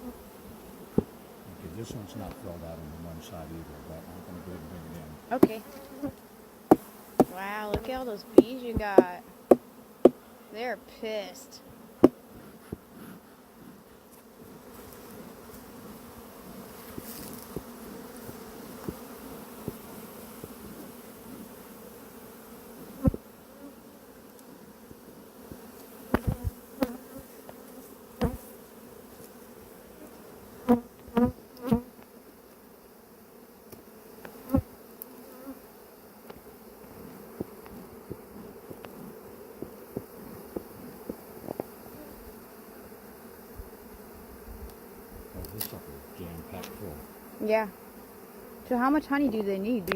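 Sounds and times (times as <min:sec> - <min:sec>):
bees buzzing: 0:00.0 - 0:49.9.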